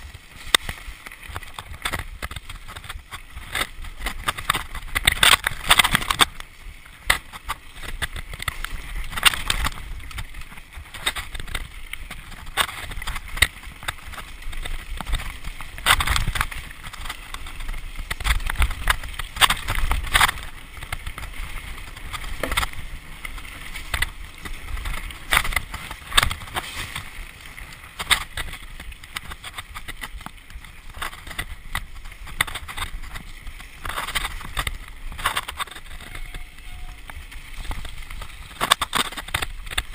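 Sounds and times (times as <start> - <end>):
bike knocking and rattling: 0.0 - 39.9.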